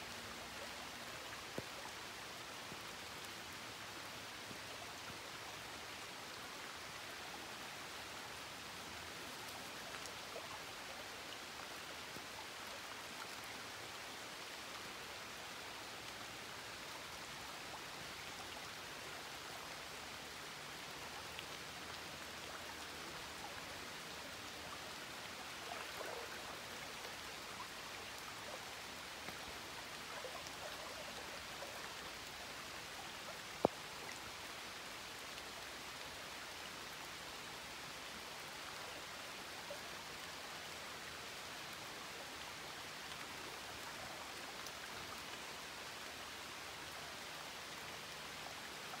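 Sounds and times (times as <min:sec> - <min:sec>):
light rain on water and leaves: 0:00.0 - 0:49.0.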